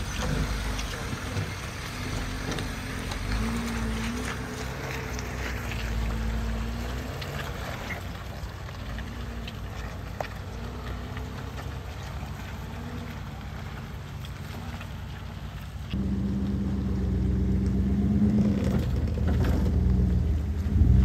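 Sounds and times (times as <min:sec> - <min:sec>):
engine running under load: 0:00.0 - 0:21.0
tyres crunching over gravel: 0:00.0 - 0:21.0.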